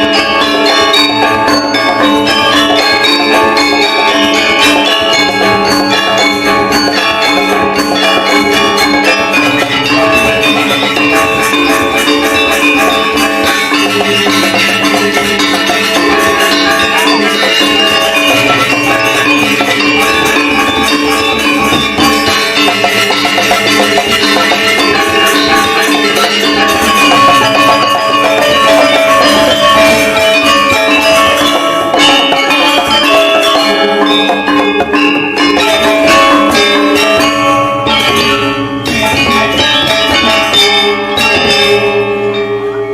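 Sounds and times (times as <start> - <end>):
drums: 0.0 - 42.4
gamelan ensemble playing: 0.0 - 42.9
metallophones ringing: 0.0 - 42.9.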